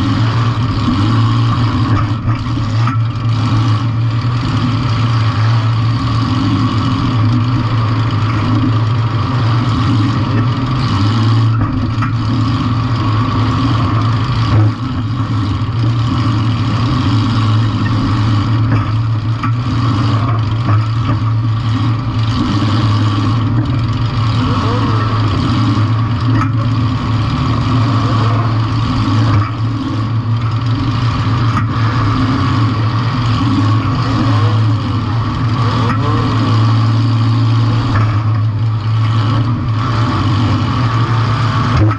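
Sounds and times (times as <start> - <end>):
car engine running loud: 0.0 - 41.9
engine knocks: 0.0 - 41.9.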